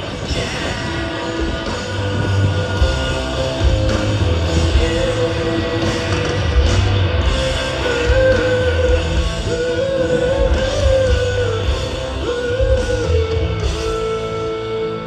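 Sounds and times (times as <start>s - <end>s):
rock band playing: 0.0s - 15.0s
person singing long held notes: 0.1s - 6.5s, 7.4s - 15.0s.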